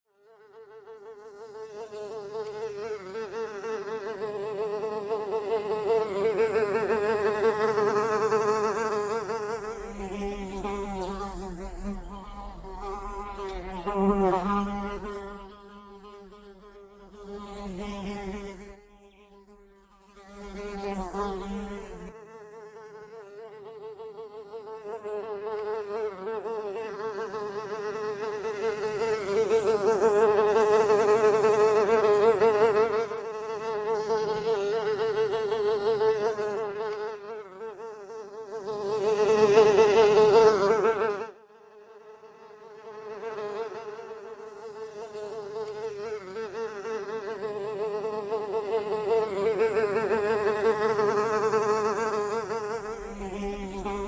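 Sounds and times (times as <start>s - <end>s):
fly buzzing: 0.2s - 54.0s.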